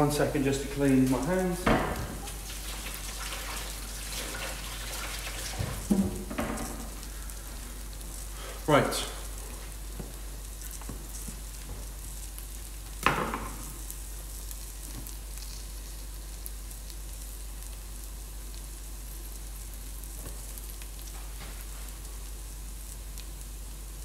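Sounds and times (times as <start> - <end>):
onions sizzling in pan: 0.0 - 24.0.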